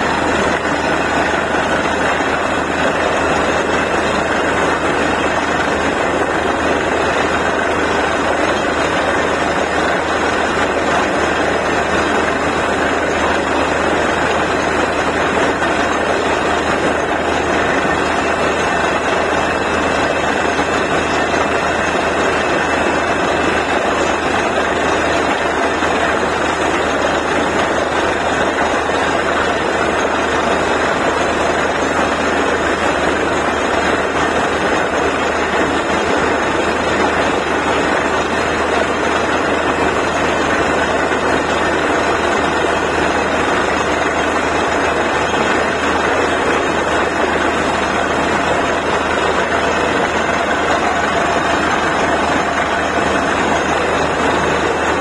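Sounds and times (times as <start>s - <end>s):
drilling rig running: 0.0s - 55.0s.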